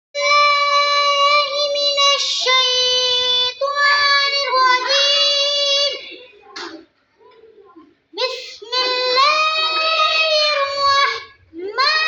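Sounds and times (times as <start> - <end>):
child chanting melodically: 0.2 - 6.5, 8.1 - 12.0.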